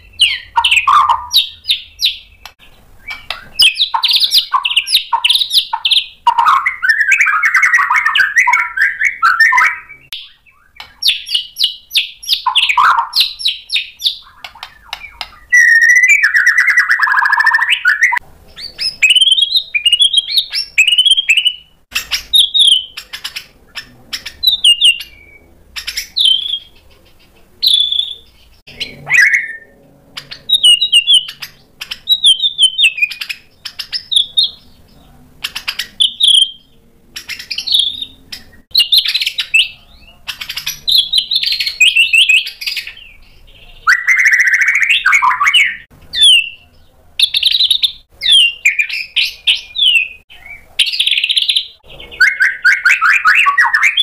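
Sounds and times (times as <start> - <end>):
bird singing varied song: 0.0 - 54.0.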